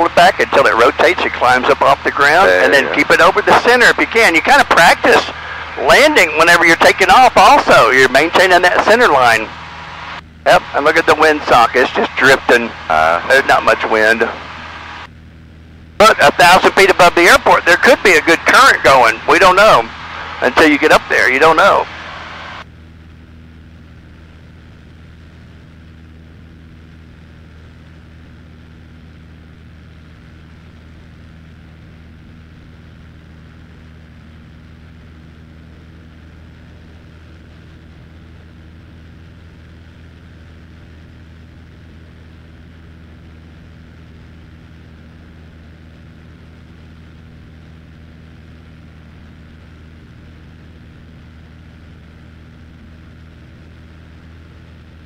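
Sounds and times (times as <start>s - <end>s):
airplane engine and propeller: 0.0s - 55.0s.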